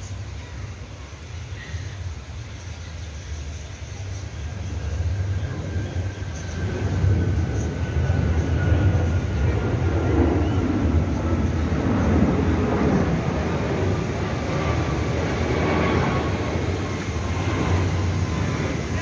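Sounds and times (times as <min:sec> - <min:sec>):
airplane rumble overhead: 0:00.0 - 0:19.0
faint engine whine: 0:00.0 - 0:19.0.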